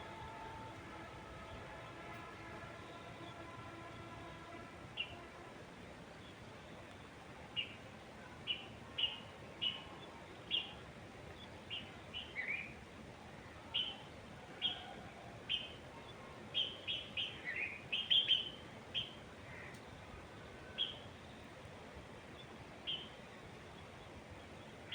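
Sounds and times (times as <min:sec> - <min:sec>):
faint steady hiss: 0:00.0 - 0:24.9.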